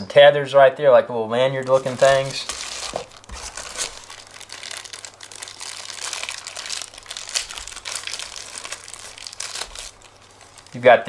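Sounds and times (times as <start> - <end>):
plastic bags crinkling: 1.5 - 11.0.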